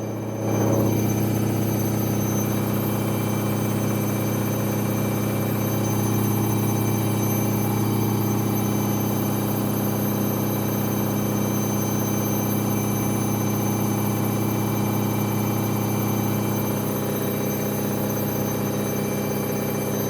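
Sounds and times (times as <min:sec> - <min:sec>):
washing machine spin cycle: 0:00.0 - 0:20.0.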